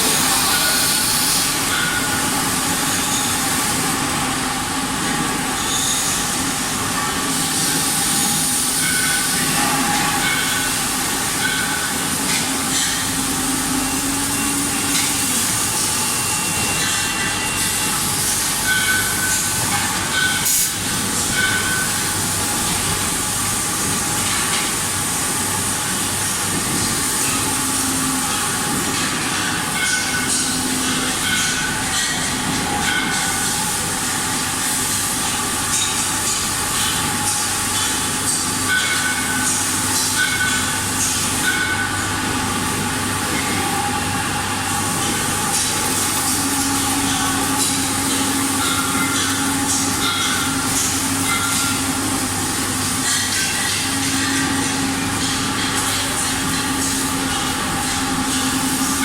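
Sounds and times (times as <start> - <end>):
factory noise: 0.0 - 59.0
welding machine hissing: 0.0 - 59.0.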